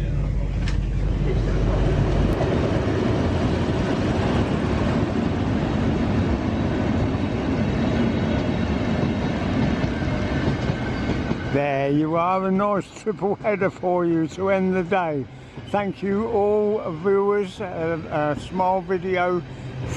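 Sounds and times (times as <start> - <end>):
train passing close by: 0.0 - 19.9.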